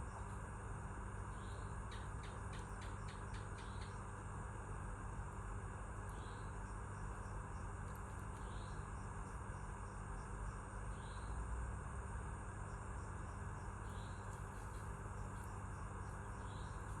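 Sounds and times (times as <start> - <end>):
insect chirping: 0.0 - 4.7, 5.3 - 17.0.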